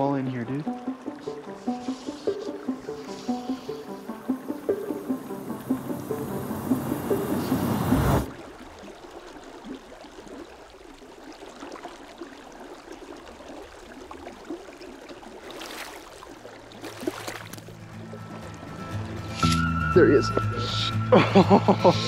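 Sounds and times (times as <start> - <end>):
river water flowing gently: 0.0 - 22.0.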